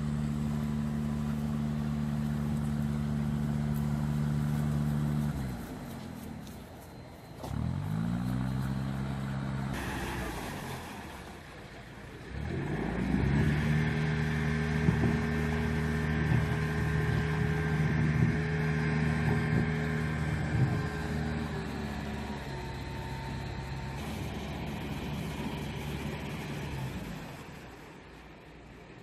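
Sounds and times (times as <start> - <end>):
boat diesel engine running: 0.0 - 29.0.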